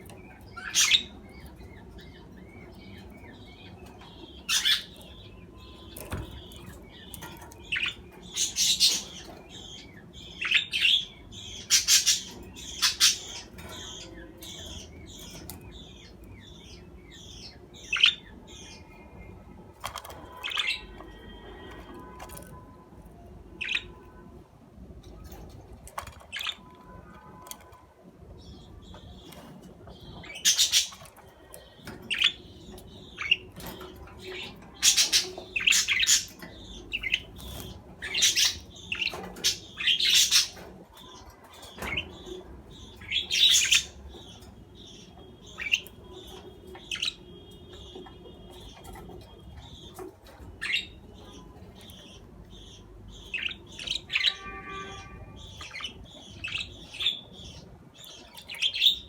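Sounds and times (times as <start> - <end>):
budgerigars chirping and squawking: 0.0 - 22.6, 23.2 - 24.4, 25.0 - 27.7, 28.4 - 59.0.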